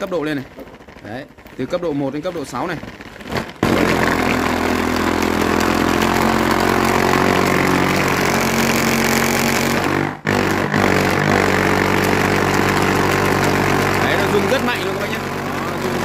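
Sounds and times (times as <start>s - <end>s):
massage gun motor buzzing: 2.9s - 15.9s.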